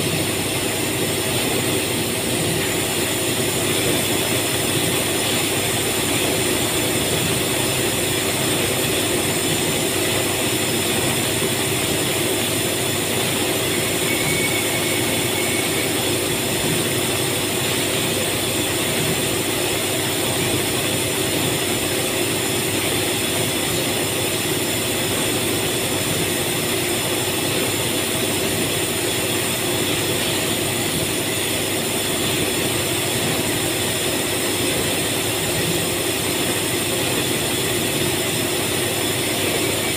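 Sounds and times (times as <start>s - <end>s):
factory machinery drone: 0.0s - 39.9s.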